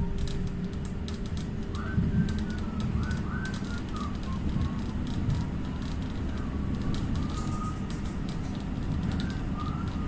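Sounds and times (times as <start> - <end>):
tram rumbling on track: 0.0 - 10.0.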